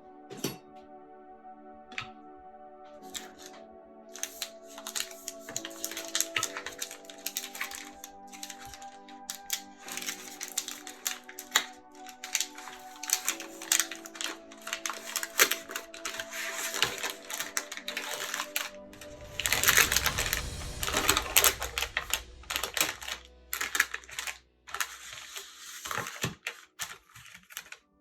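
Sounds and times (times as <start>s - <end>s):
soft background music: 0.0s - 28.0s
kitchen utensils clicking and scraping: 3.0s - 3.6s, 4.2s - 27.8s.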